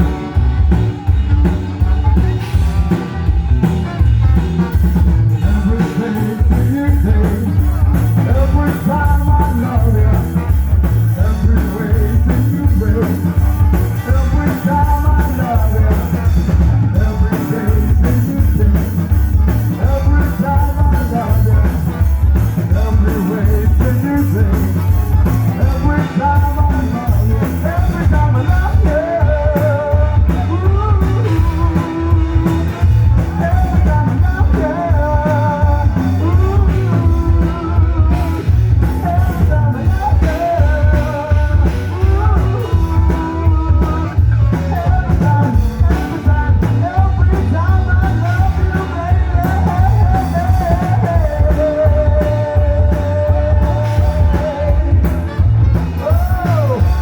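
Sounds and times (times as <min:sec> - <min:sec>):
person singing lead vocal: 0:00.0 - 0:57.0
rock band playing: 0:00.0 - 0:57.0.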